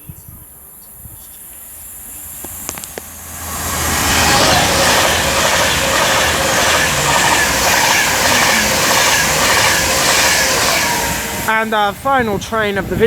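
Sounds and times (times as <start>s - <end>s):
electric train passing: 0.6s - 13.0s.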